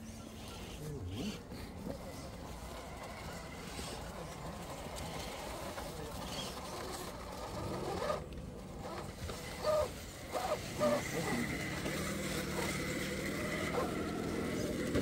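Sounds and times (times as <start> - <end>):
electric motor and gearbox whine: 0.0 - 15.0.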